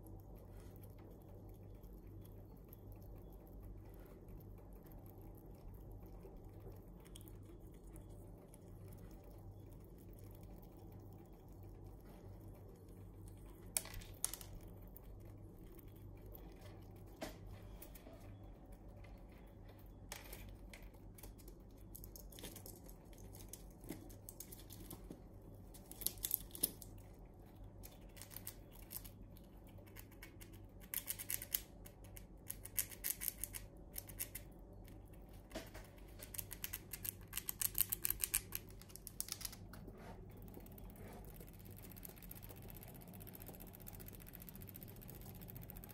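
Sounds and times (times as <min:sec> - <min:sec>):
squirrel gnawing nut shells: 0:00.0 - 0:45.9.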